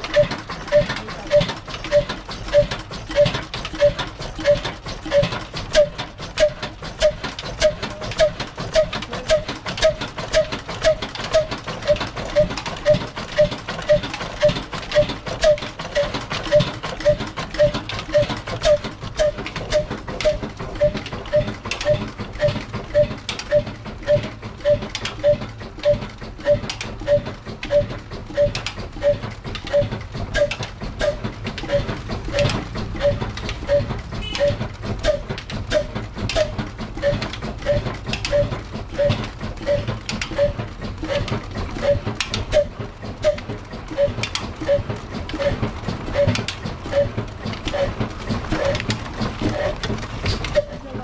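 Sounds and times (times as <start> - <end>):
single-cylinder engine beating slowly: 0.0 - 51.0.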